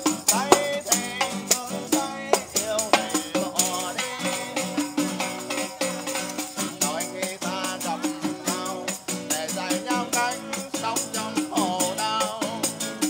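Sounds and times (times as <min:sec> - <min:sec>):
acoustic guitar strumming: 0:00.0 - 0:13.0
man singing: 0:00.0 - 0:13.0
tambourine: 0:00.0 - 0:13.0.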